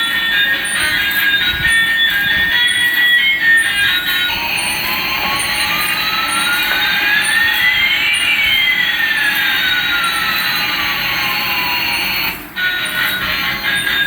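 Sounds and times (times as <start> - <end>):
whine gliding up in pitch: 0.0 - 11.5.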